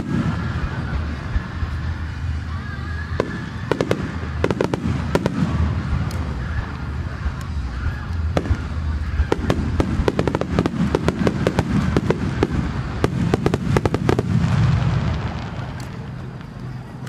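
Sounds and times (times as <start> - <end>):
continuous low rumble: 0.0 - 17.0
fireworks bangs: 0.0 - 17.0.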